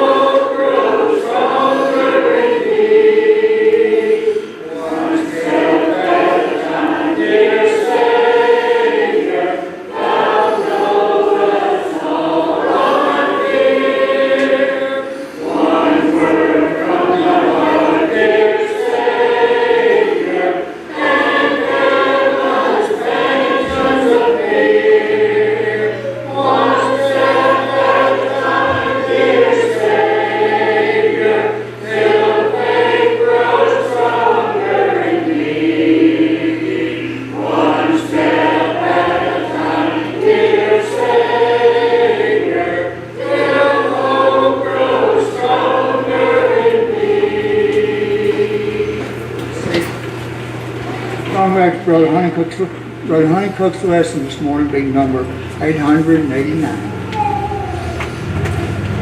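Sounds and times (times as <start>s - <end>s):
congregation singing a hymn: 0.0s - 59.0s.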